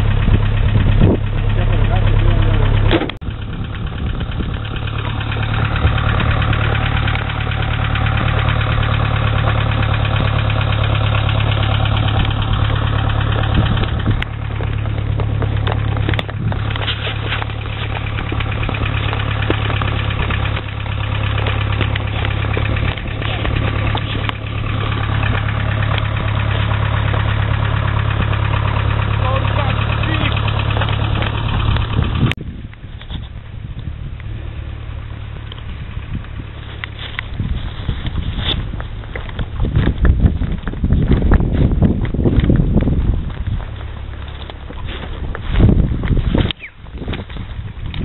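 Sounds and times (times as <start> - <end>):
engine idling low drone: 0.0 - 48.0.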